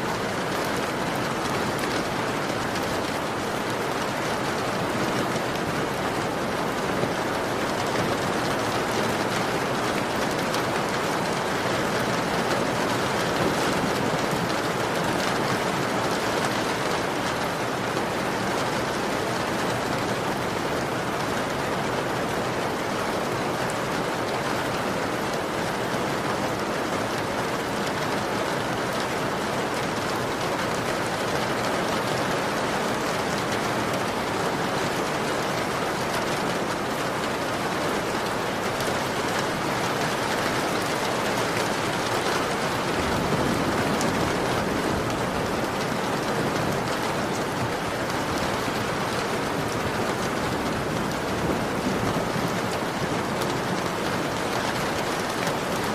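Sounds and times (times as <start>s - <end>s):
heavy rain on a window: 0.0s - 55.9s.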